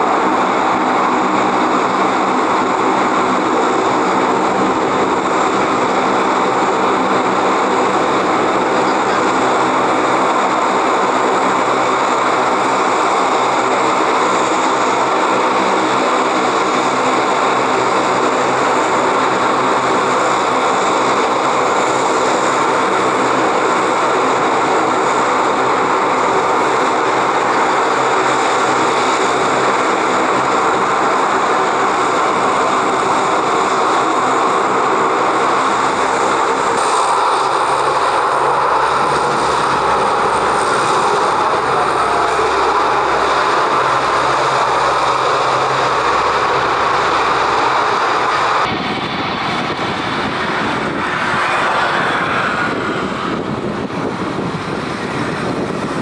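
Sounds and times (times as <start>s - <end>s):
aircraft engines droning: 0.0s - 56.0s.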